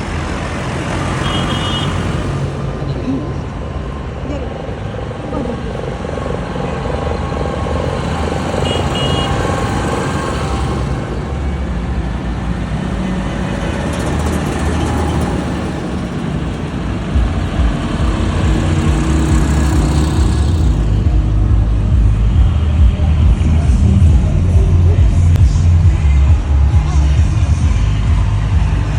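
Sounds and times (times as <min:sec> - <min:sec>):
heavy trucks driving past: 0:00.0 - 0:28.9.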